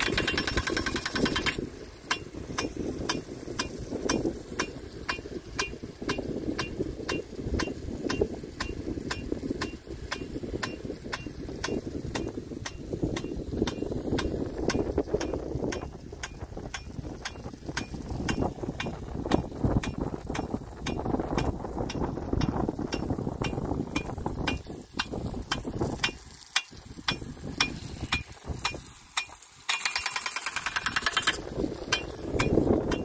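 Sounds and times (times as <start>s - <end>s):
rushing water noise: 0.0s - 33.0s
sprinkler arm clicking: 0.0s - 33.0s.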